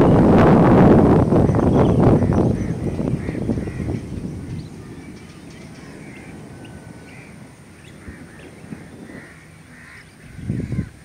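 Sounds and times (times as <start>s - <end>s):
low wind rumble: 0.0s - 11.0s
wind buffeting microphone: 0.0s - 11.0s
crows cawing: 1.6s - 11.0s.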